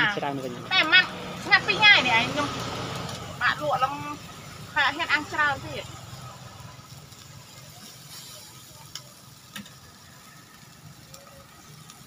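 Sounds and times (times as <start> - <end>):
food sizzling on charcoal grill: 0.0 - 12.0.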